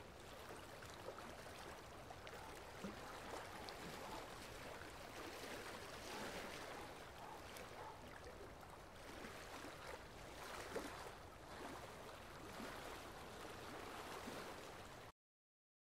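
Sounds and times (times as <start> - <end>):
small waves lapping against rocks: 0.0 - 15.1.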